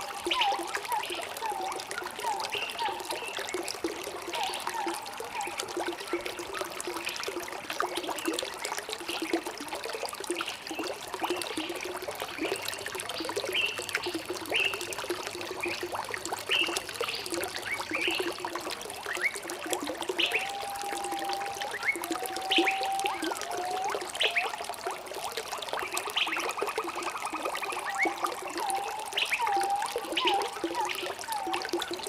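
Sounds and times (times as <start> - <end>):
stream trickling and gurgling: 0.0 - 32.0.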